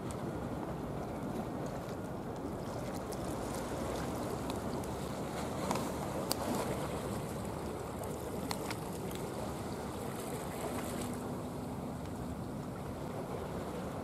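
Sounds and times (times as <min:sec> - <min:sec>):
faint steady hum: 0:00.0 - 0:14.0
water lapping around concrete: 0:00.0 - 0:14.0.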